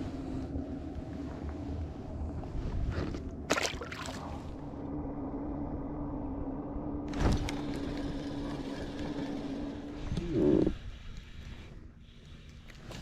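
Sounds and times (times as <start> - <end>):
boat hum: 0.0 - 13.0.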